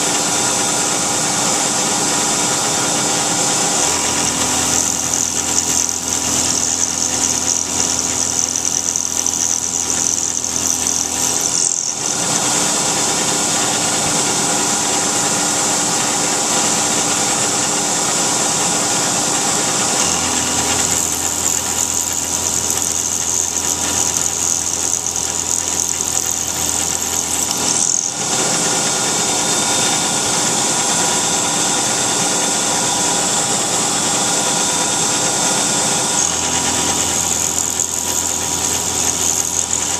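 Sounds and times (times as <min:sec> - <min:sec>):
high-pitched metal cutting noise: 0:00.0 - 0:39.9
milling machine hum: 0:00.0 - 0:39.9.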